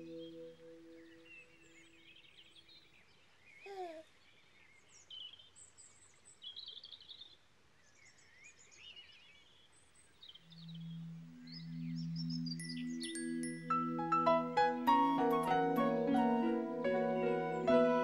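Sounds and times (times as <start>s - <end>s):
bird chirps and trills: 0.0s - 18.0s.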